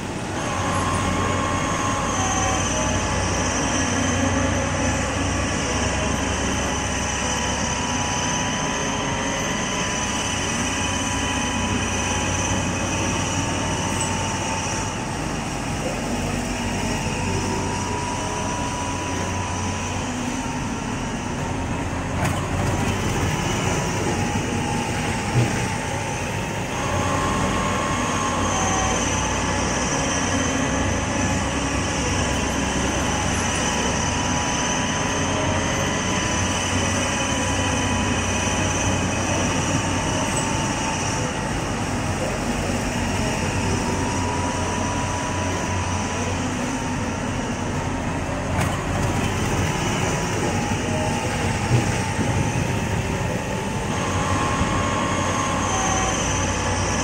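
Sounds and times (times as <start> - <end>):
diesel engine running: 0.0 - 57.0
high hydraulic whine: 0.0 - 57.0.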